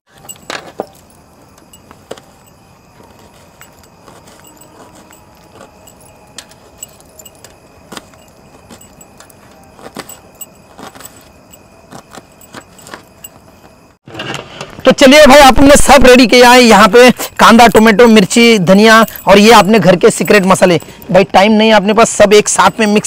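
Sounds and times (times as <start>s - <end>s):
bracelets and rings jingling: 0.0s - 13.9s, 17.2s - 23.0s.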